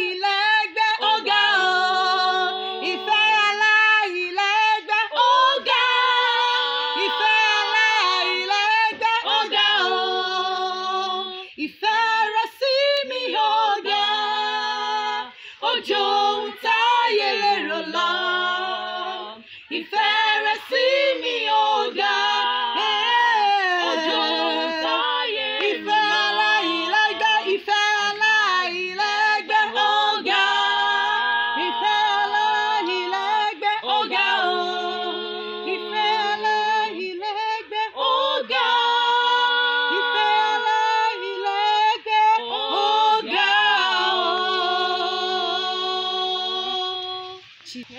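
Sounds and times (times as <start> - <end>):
women singing unaccompanied: 0.0 - 47.9.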